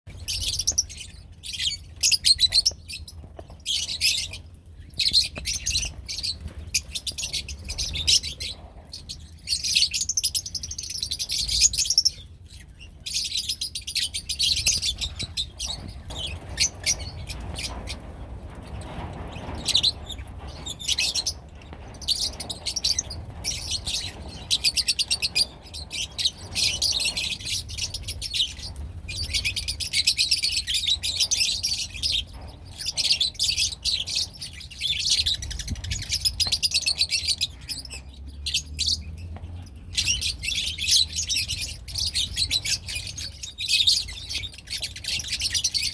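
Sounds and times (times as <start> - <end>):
lovebirds chirping: 0.1 - 45.9.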